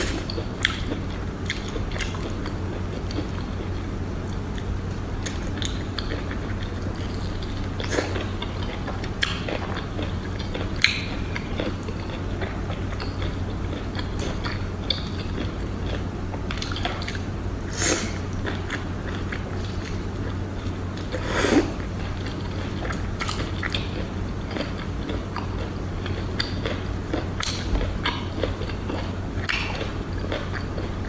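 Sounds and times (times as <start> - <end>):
steady low hum: 0.0 - 31.0
wet biting and chewing: 4.3 - 31.0.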